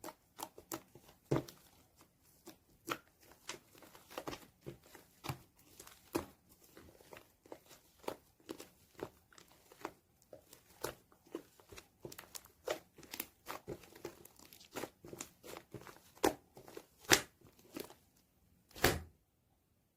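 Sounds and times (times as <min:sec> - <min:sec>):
slime squishing with sticky pops: 0:00.0 - 0:19.1.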